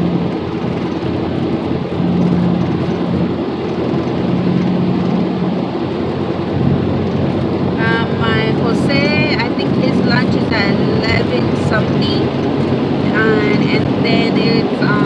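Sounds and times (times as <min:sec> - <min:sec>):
car engine and road noise: 0:00.0 - 0:15.0
low hum: 0:00.0 - 0:15.0.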